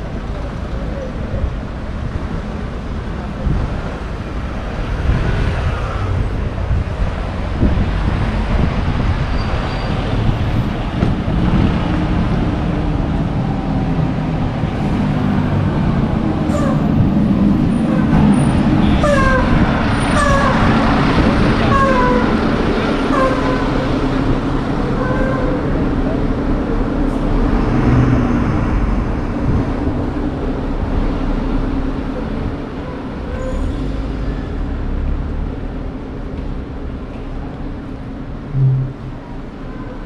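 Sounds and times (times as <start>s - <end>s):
bus engine humming: 0.0s - 40.0s
street traffic noise: 0.0s - 40.0s.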